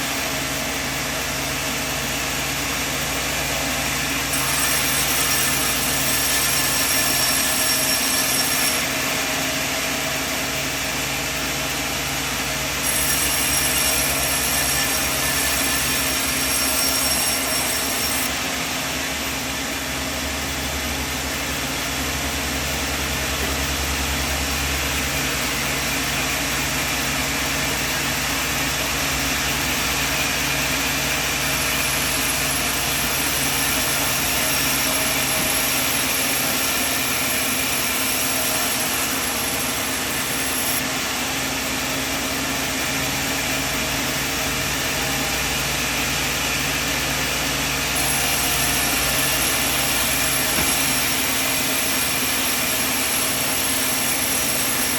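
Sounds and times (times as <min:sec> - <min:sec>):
sawmill machinery droning: 0:00.0 - 0:54.9
thin high machine whine: 0:00.0 - 0:54.9.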